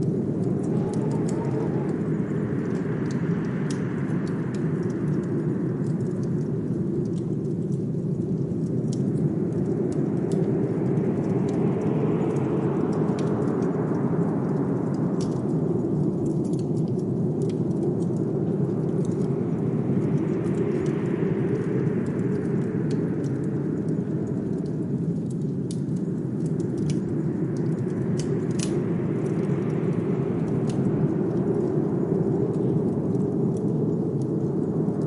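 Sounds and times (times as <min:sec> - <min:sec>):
blizzard wind blowing: 0:00.0 - 0:35.0
wood fire crackling: 0:00.0 - 0:35.0.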